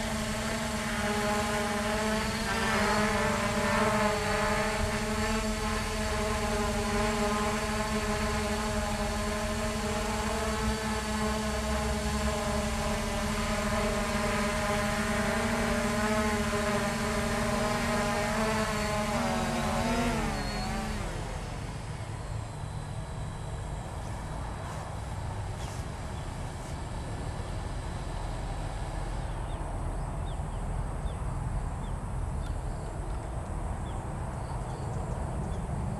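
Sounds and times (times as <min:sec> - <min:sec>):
quadcopter motors humming: 0:00.0 - 0:35.9.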